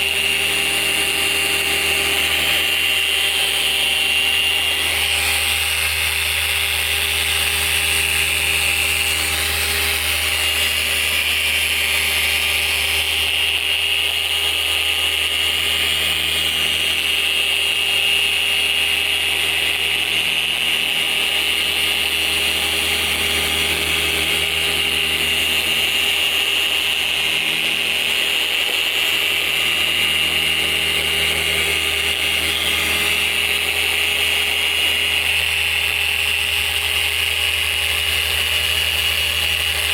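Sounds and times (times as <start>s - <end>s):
electric car polisher whining: 0.0s - 39.9s.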